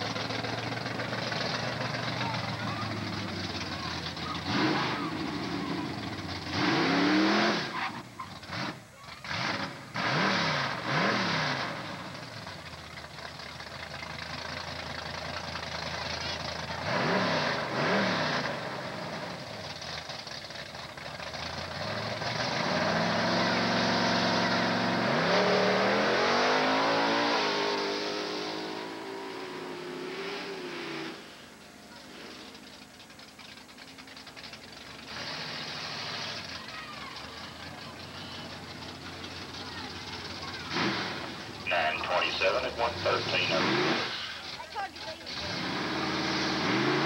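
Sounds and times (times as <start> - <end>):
car accelerating hard: 0.0 - 47.0
drag car engine revving: 0.0 - 47.0.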